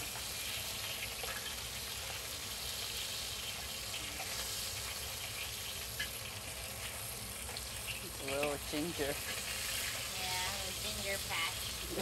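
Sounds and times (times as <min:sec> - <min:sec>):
fish frying in oil sizzling: 0:00.0 - 0:12.0.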